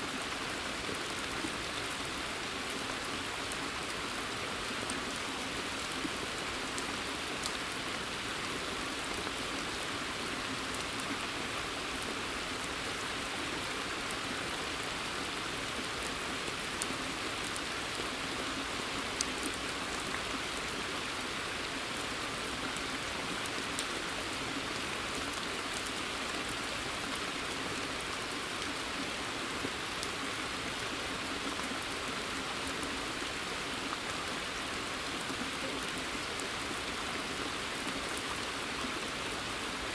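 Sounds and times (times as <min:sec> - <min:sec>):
rain falling on pond and forest: 0:00.0 - 0:39.9.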